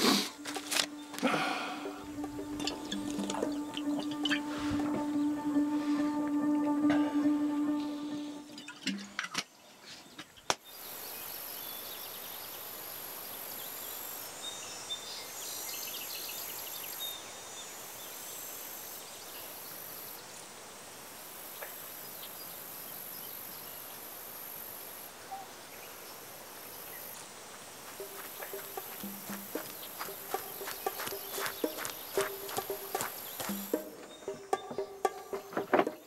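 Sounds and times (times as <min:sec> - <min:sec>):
steady hiss: 0:00.0 - 0:06.3, 0:09.8 - 0:34.1
insects buzzing high-pitched: 0:00.0 - 0:09.1, 0:10.7 - 0:36.0.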